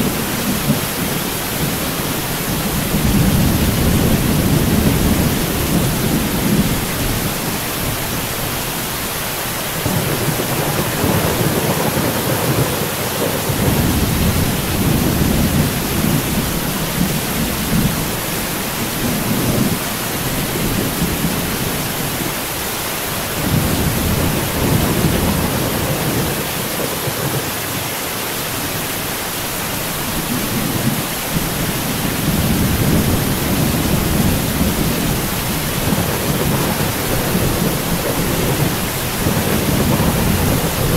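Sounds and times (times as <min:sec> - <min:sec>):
low rolling thunder: 0:00.0 - 0:08.6, 0:09.6 - 0:27.9, 0:29.9 - 0:40.9
heavy rain hissing: 0:00.0 - 0:40.9.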